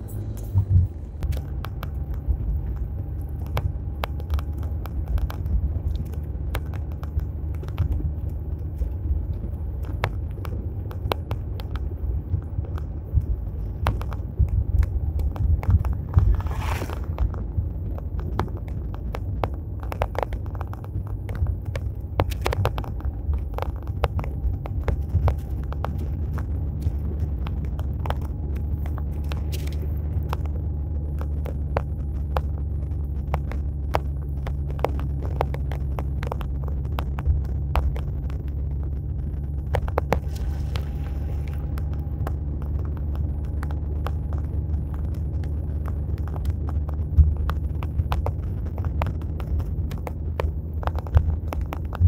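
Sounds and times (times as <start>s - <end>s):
engine and tyre rumble: 0.0s - 52.0s
small clicks and rattles: 0.1s - 52.0s.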